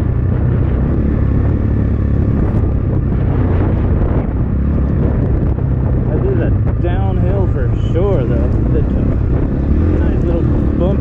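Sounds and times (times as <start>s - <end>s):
dirt bike engine running: 0.0s - 11.0s
wind noise on microphone: 0.0s - 11.0s.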